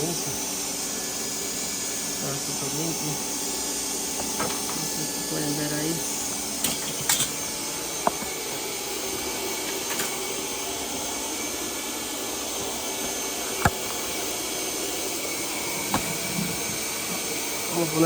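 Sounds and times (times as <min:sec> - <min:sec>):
shop vacuum running: 0:00.0 - 0:18.0.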